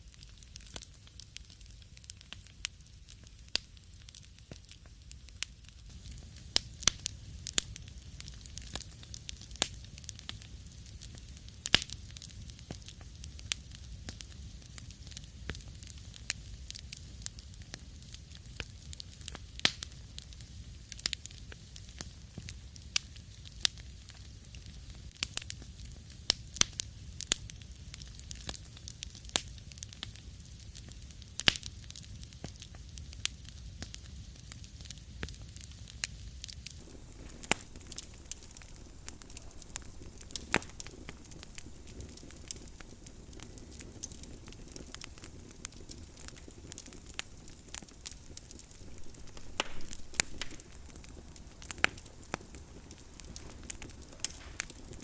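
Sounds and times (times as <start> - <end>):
burning logs rumble and hiss: 0.0 - 55.0
wood fire crackling: 0.0 - 55.0.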